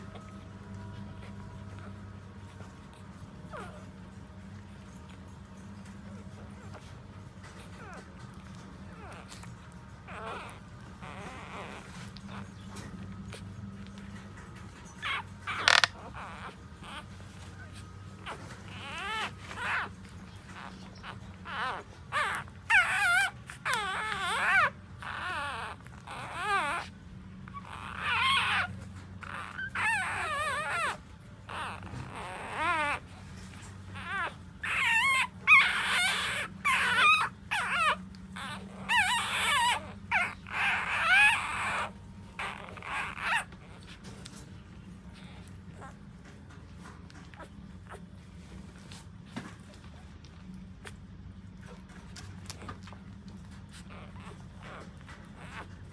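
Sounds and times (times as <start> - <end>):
puppies whimpering and squealing: 0.0 - 55.9
steady low hum: 0.0 - 55.9.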